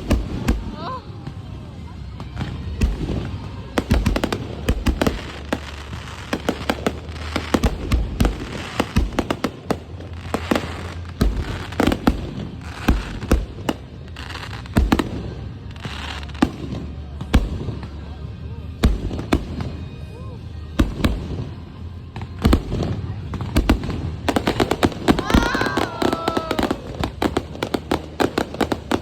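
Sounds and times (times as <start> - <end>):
fireworks bangs: 0.0 - 1.6, 2.2 - 18.0, 20.8 - 29.0.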